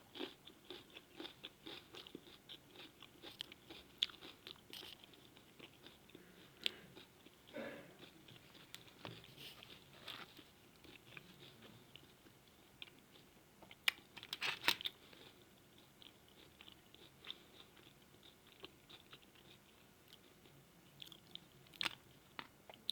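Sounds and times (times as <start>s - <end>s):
person chewing: 0.1s - 20.4s.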